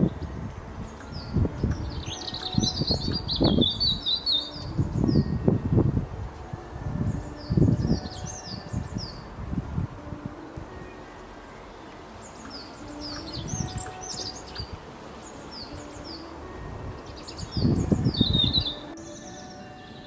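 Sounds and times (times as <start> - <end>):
low rough noise: 0.0 - 20.0
small songbirds chirping: 0.0 - 20.0.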